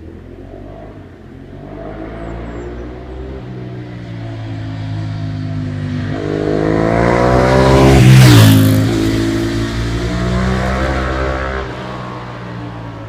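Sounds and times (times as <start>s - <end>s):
motorcycle accelerating past: 0.4s - 13.0s.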